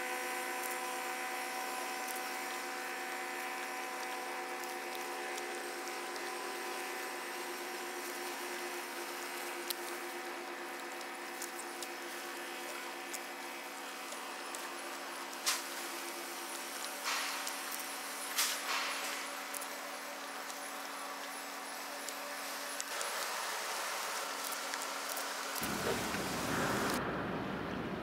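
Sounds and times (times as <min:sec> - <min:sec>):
boat engines droning: 0:00.0 - 0:18.3, 0:19.0 - 0:28.0.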